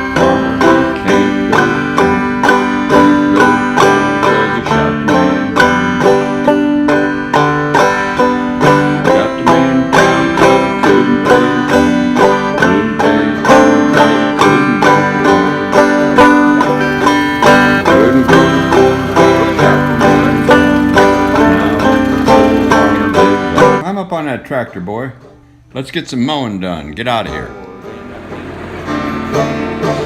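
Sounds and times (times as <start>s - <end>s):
banjo tune: 0.0s - 30.0s
guitar: 0.0s - 30.0s.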